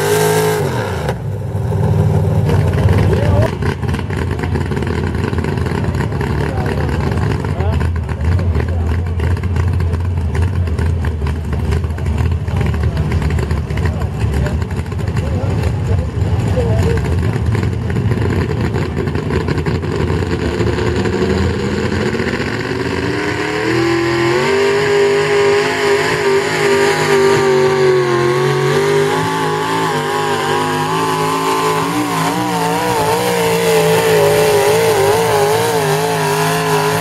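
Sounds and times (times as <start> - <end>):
tractor engine revving under load: 0.0 - 37.0.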